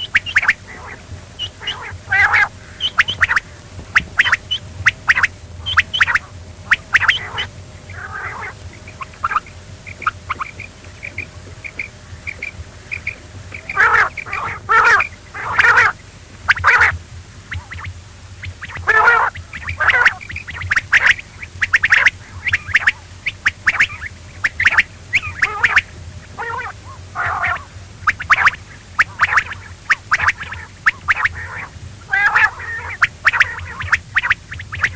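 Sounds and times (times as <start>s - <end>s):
quail calling: 0.0s - 34.9s
steady low hum: 0.0s - 34.9s.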